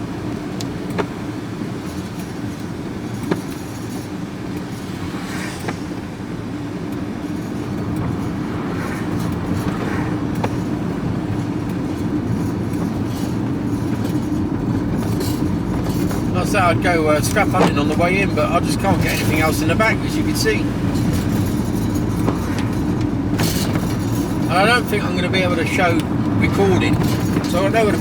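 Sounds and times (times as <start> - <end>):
road and engine noise: 0.0 - 28.0
wheels rattling: 0.0 - 28.0.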